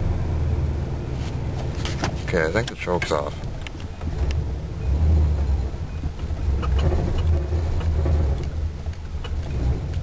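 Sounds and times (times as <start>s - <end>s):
car engine idling rough: 0.0s - 10.0s.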